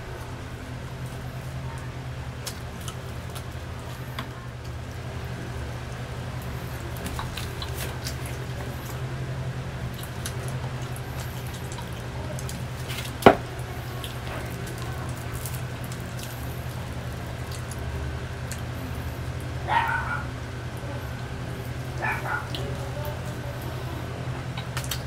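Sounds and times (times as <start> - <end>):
steady low hum: 0.0 - 25.0
chewing with wet mouth clicks: 0.8 - 20.9, 21.5 - 25.0.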